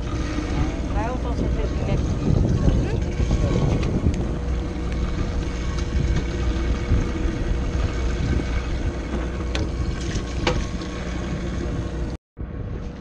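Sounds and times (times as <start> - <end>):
boat engine idling: 0.0 - 12.6.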